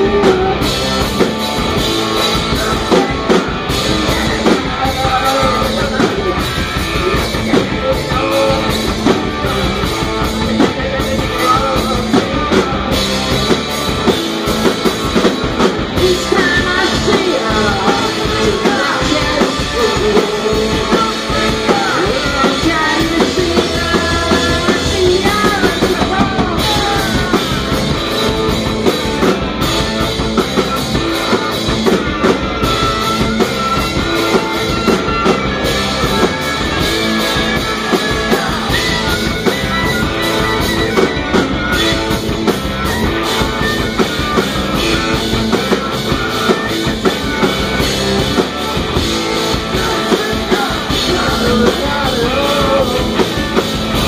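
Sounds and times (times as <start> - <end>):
punk rock band playing live: 0.0 - 54.0
wavering lead guitar line: 0.0 - 54.0.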